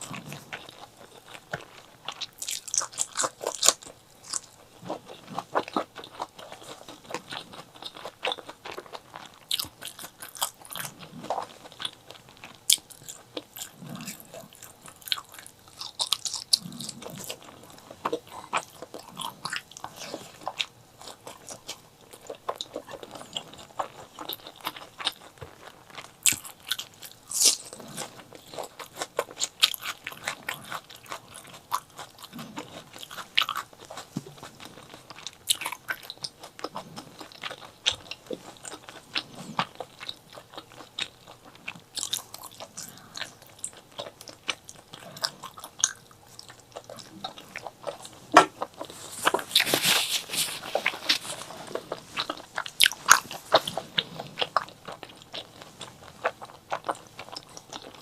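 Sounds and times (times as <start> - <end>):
crunchy bites with wet chewing: 0.0 - 58.0.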